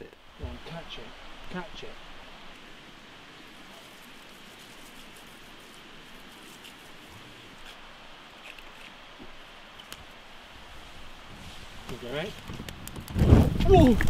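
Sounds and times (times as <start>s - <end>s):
campfire crackling: 0.0s - 14.0s
steady hiss: 0.0s - 14.0s.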